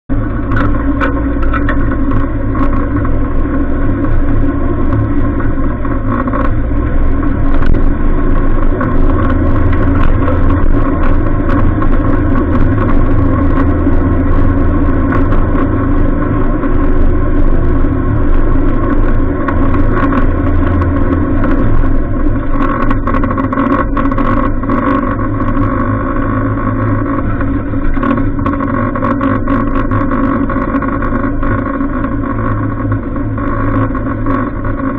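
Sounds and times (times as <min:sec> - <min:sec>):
vehicle engine running under load: 0:00.1 - 0:34.9
vehicle knocks and rattles: 0:00.1 - 0:34.9.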